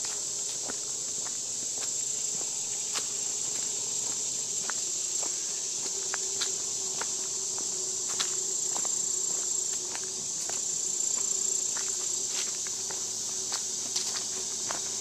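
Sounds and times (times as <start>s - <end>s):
footsteps on dirt path: 0.0s - 15.0s
insect chorus: 0.0s - 15.0s.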